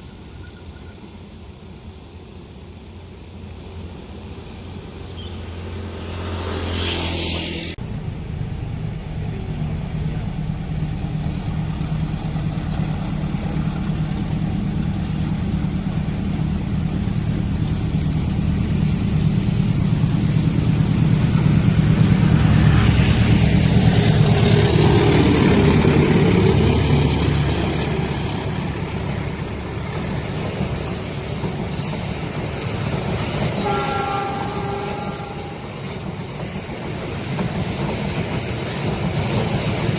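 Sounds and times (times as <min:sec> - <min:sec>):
diesel train engine passing: 0:00.0 - 0:39.9.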